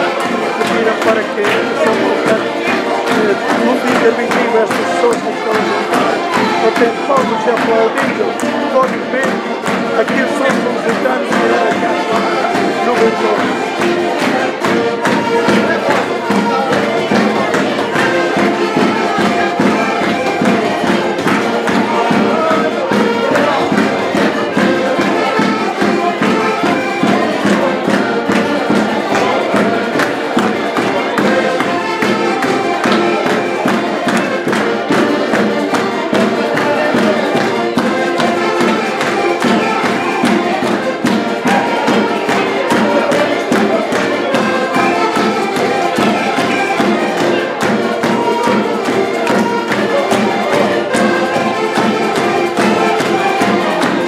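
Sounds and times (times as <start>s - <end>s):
folk music with accordions: 0.0s - 54.0s
people clapping along: 0.0s - 54.0s.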